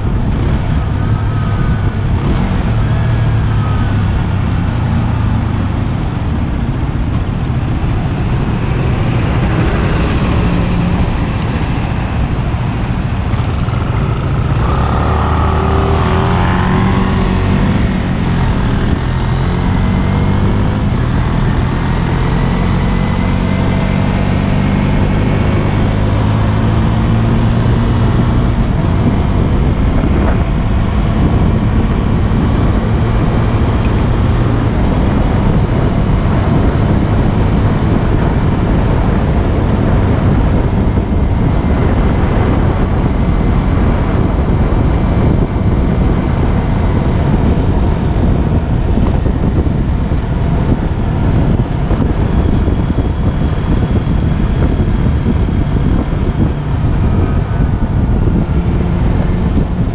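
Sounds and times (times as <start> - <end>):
motorcycle engine cruising: 0.0 - 59.9
wind buffeting microphone: 0.0 - 59.9.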